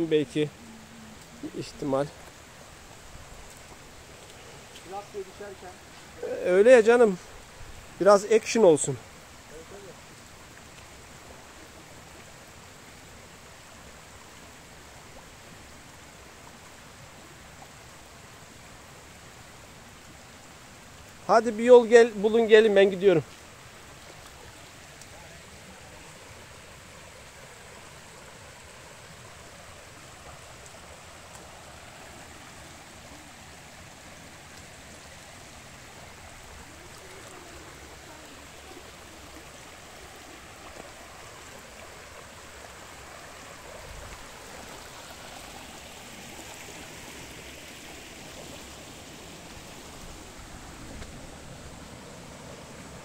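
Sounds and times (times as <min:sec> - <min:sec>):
stream water rushing over rocks: 0:00.0 - 0:53.0.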